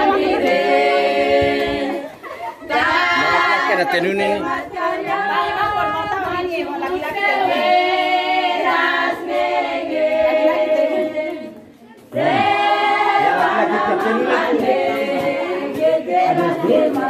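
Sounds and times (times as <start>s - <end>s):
choir singing a cappella: 0.0s - 17.0s.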